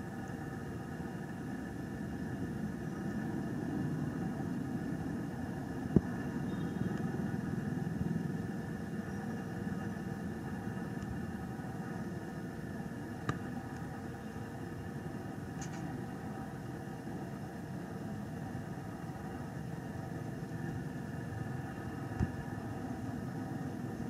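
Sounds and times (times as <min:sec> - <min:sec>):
mechanical hum: 0:00.0 - 0:24.0.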